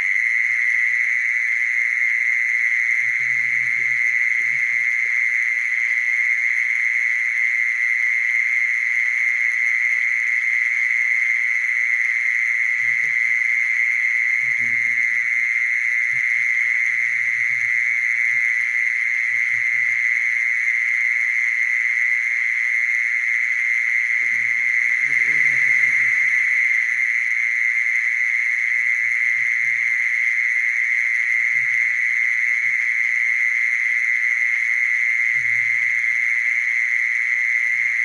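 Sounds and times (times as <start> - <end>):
mole cricket trilling: 0.0 - 38.0.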